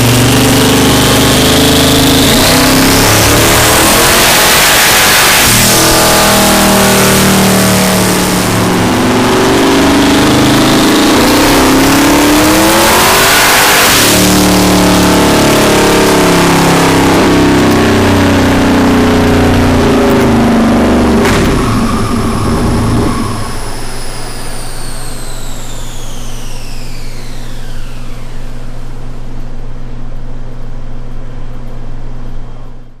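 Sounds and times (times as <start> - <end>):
car engine revving: 0.0 - 29.3
turbo whine: 0.0 - 33.0.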